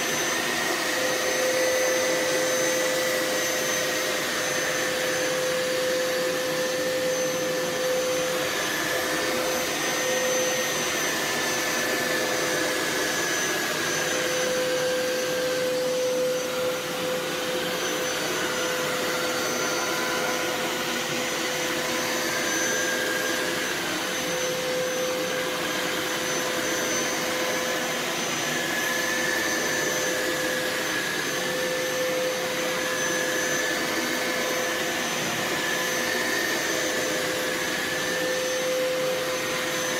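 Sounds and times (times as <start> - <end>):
carpet cleaner motor hum and whine: 0.0 - 39.9.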